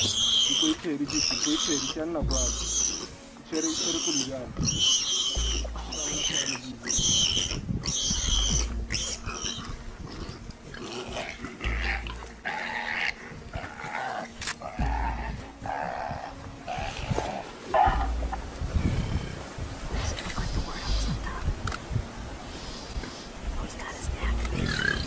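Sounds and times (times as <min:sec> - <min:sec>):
animals fighting calls: 0:00.0 - 0:25.0.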